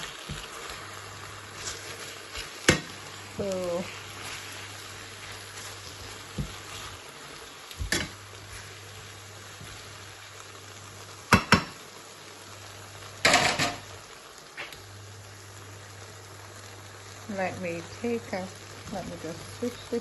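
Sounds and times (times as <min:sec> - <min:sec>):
noodles sizzling in a pan: 0:00.0 - 0:20.0.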